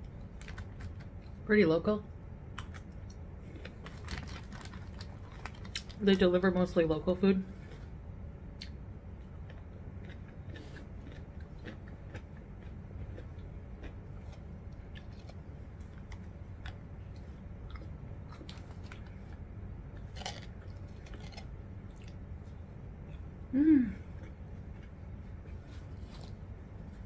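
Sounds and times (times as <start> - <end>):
low hum: 0.0 - 27.0
person chewing food: 2.6 - 5.9, 8.6 - 27.0.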